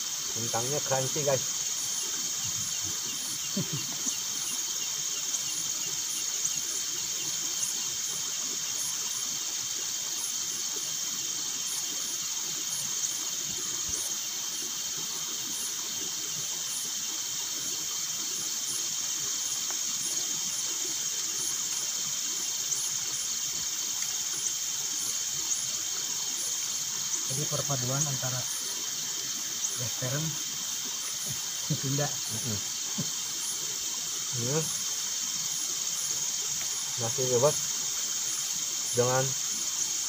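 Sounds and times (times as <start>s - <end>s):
crickets trilling: 0.0s - 40.0s
high repeating insect chirp: 0.0s - 40.0s.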